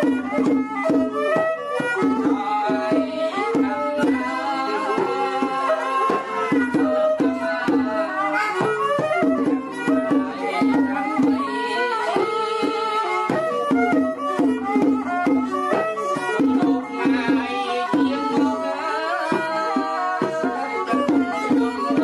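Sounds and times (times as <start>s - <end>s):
folk instrumental music: 0.0s - 22.0s.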